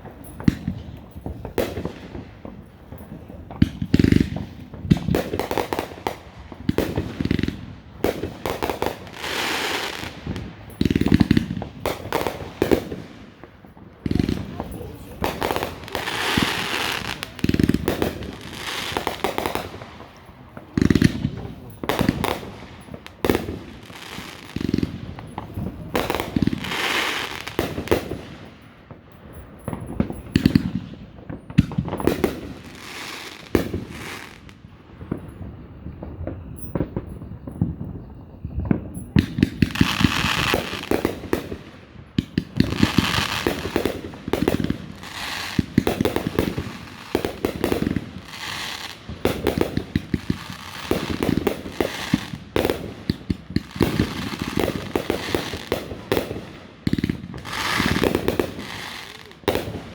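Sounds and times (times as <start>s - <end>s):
firework shells booming: 0.0s - 59.9s
fireworks crackling and hissing: 0.0s - 59.9s.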